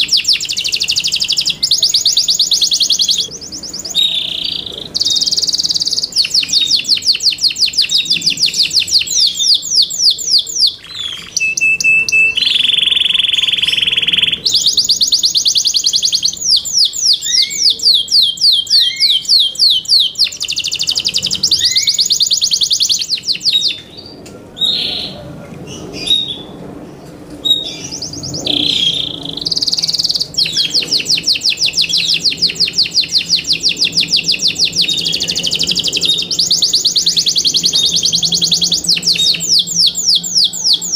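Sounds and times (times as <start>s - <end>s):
canary singing trills: 0.0s - 26.6s, 27.4s - 40.9s.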